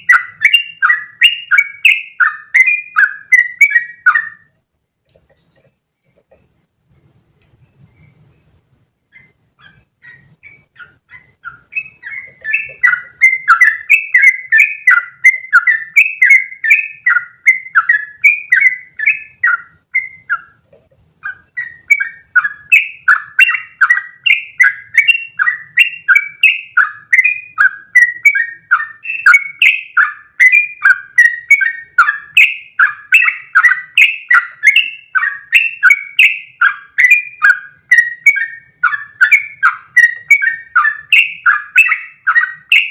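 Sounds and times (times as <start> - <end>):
bulbul singing chirping notes: 0.0 - 4.6, 7.6 - 20.6, 21.2 - 42.9.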